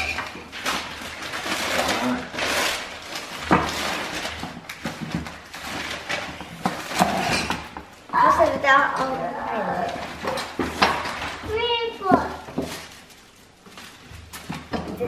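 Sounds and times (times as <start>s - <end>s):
tissue paper rustling: 0.0s - 7.2s, 9.6s - 14.5s.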